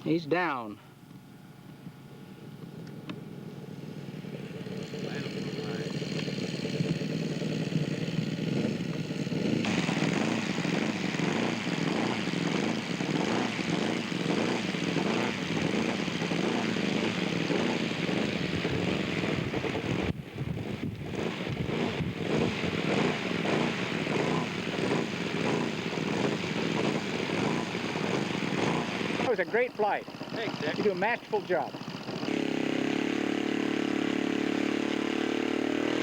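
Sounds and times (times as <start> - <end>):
model airplane engine running: 0.0 - 36.0.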